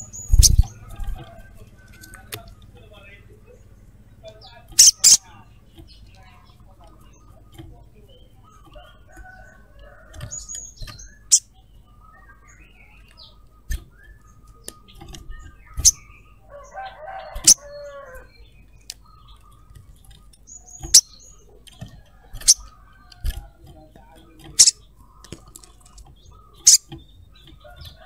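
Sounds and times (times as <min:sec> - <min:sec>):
bird chirping and chattering: 0:00.0 - 0:28.0.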